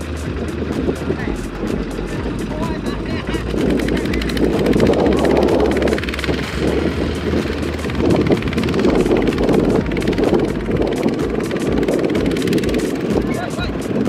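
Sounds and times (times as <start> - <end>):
diesel engine running: 0.0 - 14.0
wind on microphone: 0.0 - 14.0.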